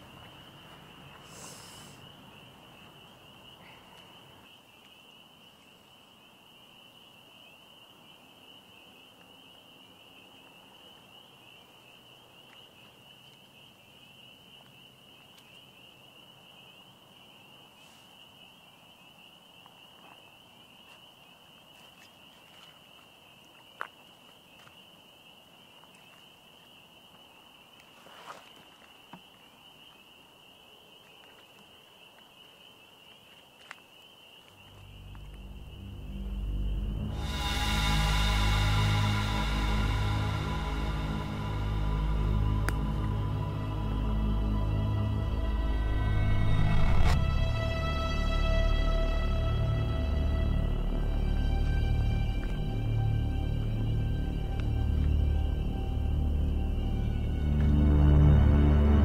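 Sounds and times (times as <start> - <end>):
insect chorus trilling: 0.0 - 57.4.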